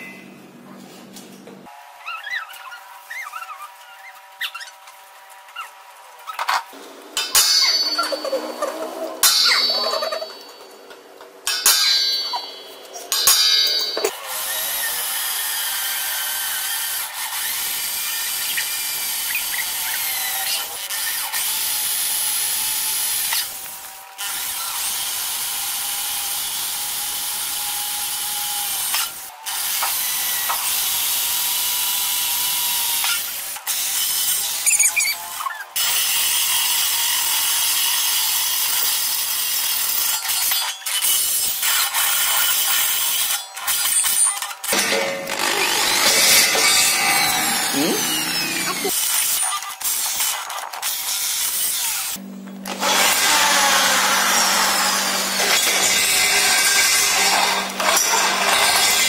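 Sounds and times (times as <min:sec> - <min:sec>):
electric drill boring steel: 0:11.5 - 0:59.0.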